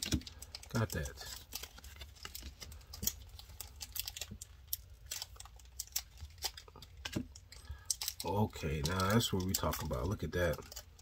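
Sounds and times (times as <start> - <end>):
cards clicking and snapping: 0.0 - 11.0.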